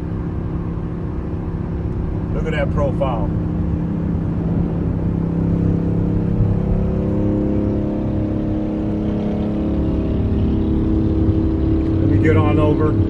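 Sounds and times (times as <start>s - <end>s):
car engine drone: 0.0s - 13.0s
low road rumble: 0.0s - 13.0s.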